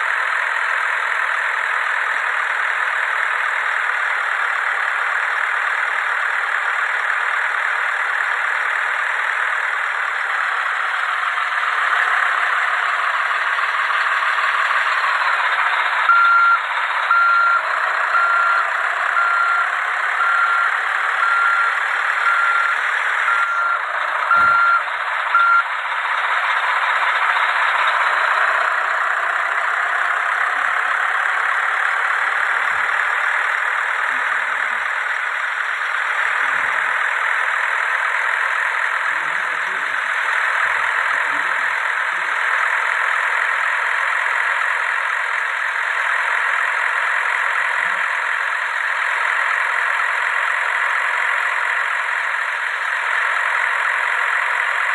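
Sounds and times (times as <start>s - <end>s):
truck reversing alarm beeping: 0.1s - 54.9s.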